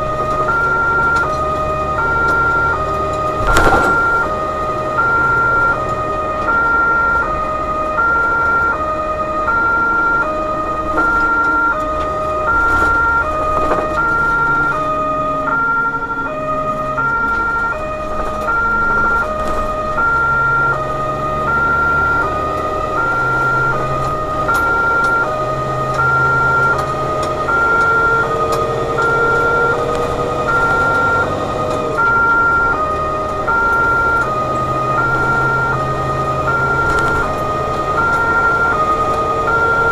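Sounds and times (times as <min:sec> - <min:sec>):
truck engine and road noise: 0:00.0 - 0:39.9
two-tone emergency siren: 0:00.0 - 0:39.9.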